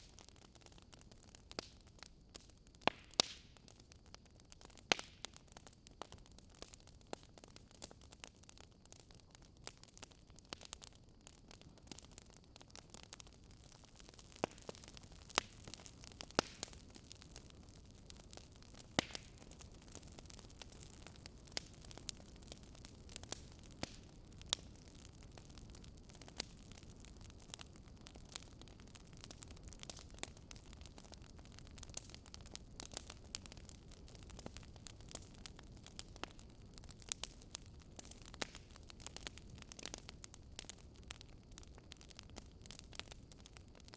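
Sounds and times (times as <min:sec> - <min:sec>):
faint low hiss: 0:00.0 - 0:43.9
wood fire crackling: 0:00.0 - 0:43.9.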